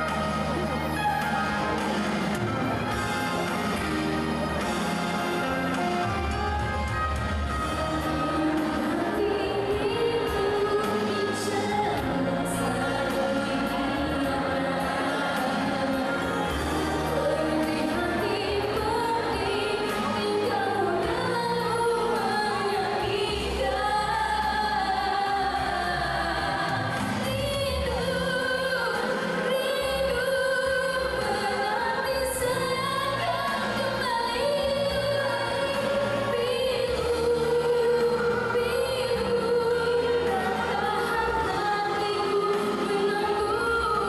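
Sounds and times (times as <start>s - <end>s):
backing music: 0.0s - 44.0s
woman singing into a microphone: 7.5s - 44.0s.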